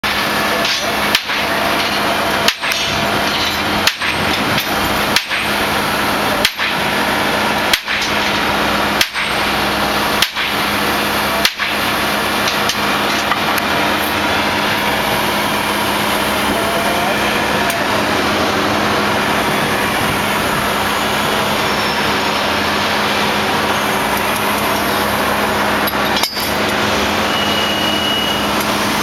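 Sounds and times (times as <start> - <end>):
running machinery drone: 0.0 - 29.0.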